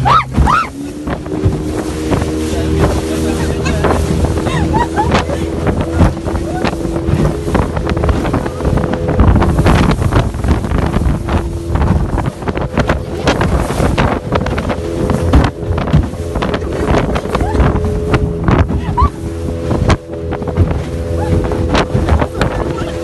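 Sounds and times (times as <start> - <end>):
hull knocking and splashing: 0.0 - 23.0
outboard motor running: 0.0 - 23.0
wind buffeting microphone: 0.0 - 23.0.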